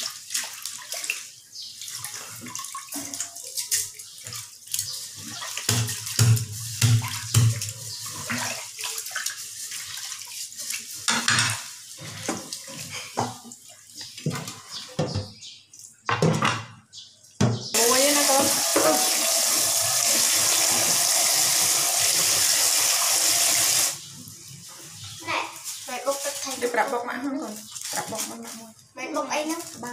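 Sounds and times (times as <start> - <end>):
running water: 0.0 - 16.1, 17.8 - 29.9.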